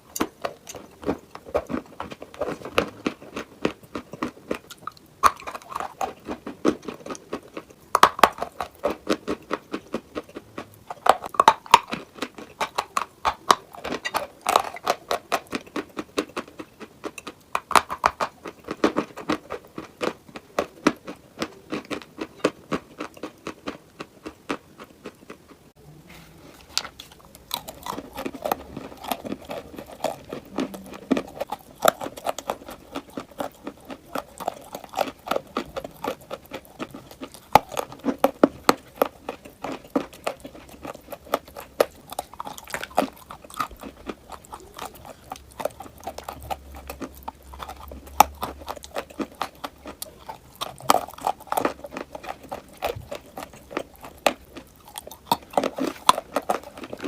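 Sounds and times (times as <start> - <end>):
person chewing crunchy chalk: 0.0 - 25.6, 26.3 - 57.0.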